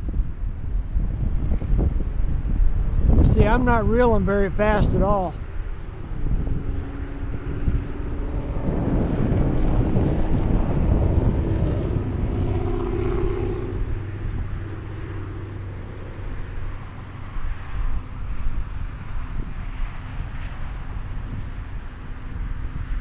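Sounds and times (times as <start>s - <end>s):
wind rumbling on microphone: 0.0s - 23.0s
faint engine-like hum: 4.2s - 23.0s.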